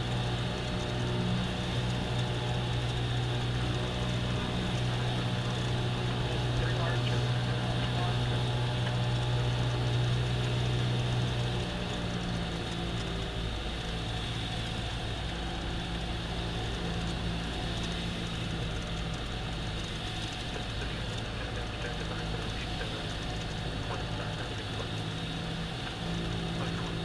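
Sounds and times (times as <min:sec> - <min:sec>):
light aircraft engine droning: 0:00.0 - 0:27.0.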